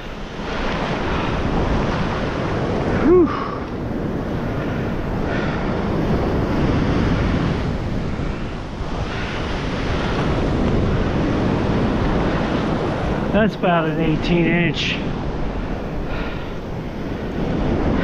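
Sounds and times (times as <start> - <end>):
ocean waves breaking on beach: 0.0 - 18.0
wind buffeting microphone: 0.0 - 18.0.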